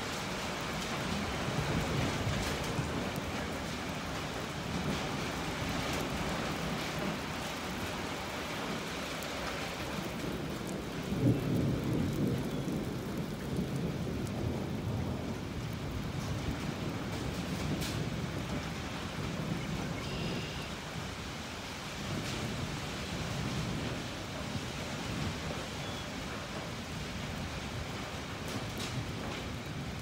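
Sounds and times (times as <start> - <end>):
steady rain falling: 0.0 - 30.0
thunder rumbling: 0.0 - 30.0.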